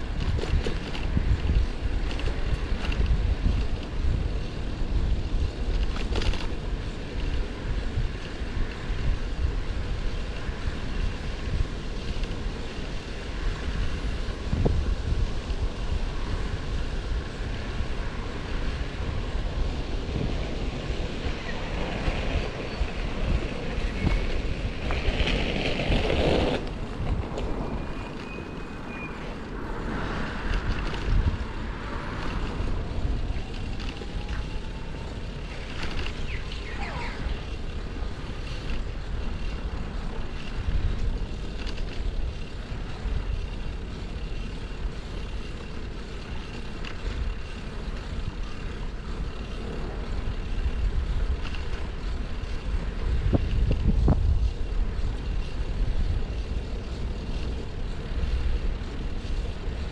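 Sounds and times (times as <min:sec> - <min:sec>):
city traffic rumble: 0:00.0 - 0:59.9
wind noise on microphone: 0:00.0 - 0:59.9.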